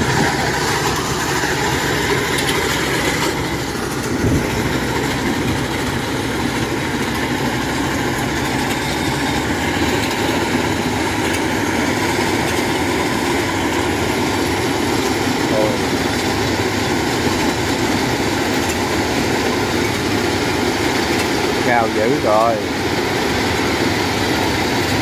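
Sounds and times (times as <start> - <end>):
diesel engine running: 0.0 - 25.0
machine driving on tracks: 0.0 - 25.0.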